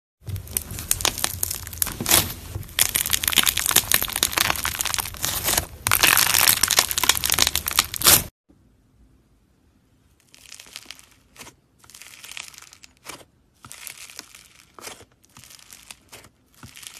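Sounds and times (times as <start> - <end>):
slime crackling and popping: 0.3 - 8.3, 10.2 - 16.9.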